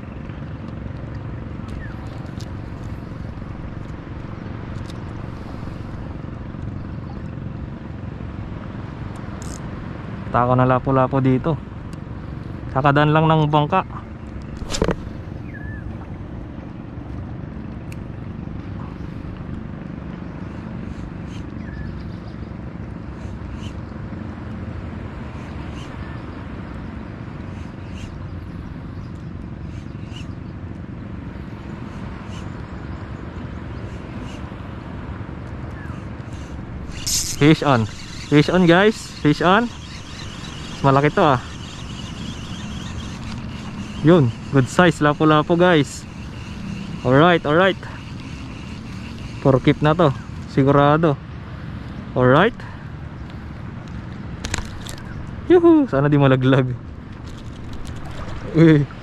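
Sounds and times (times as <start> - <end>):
boat engine drone: 0.0 - 59.0
low outdoor rumble: 0.0 - 59.0.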